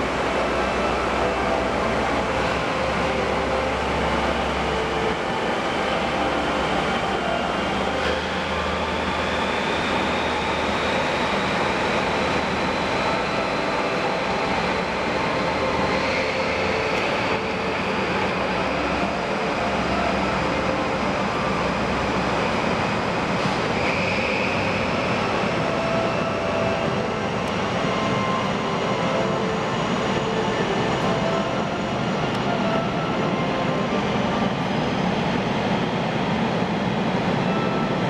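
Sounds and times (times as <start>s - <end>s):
faint high whine: 0.0s - 38.0s
train wheels rumbling on rail: 0.0s - 38.0s.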